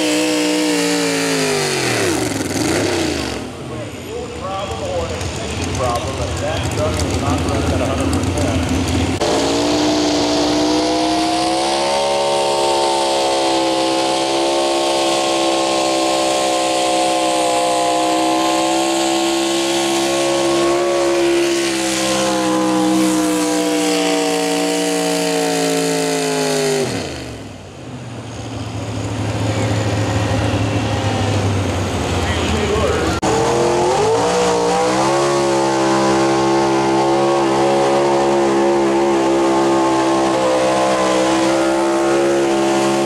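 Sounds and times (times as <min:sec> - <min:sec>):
truck engine at full throttle: 0:00.0 - 0:43.0.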